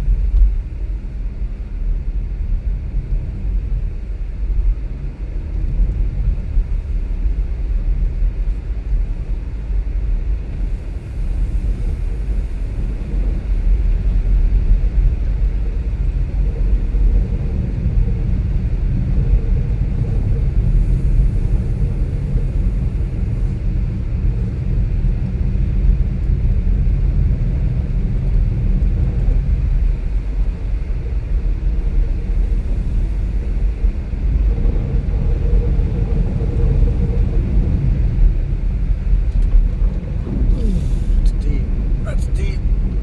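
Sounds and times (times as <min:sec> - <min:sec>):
car engine and tyre rumble: 0:00.0 - 0:43.0.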